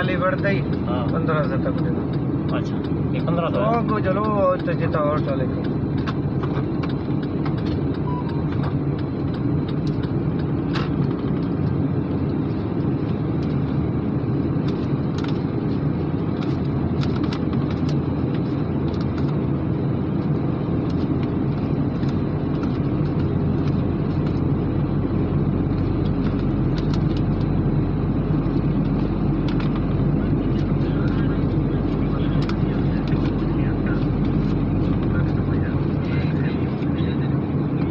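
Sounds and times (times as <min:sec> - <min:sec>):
vehicle engine rumbling: 0:00.0 - 0:37.9.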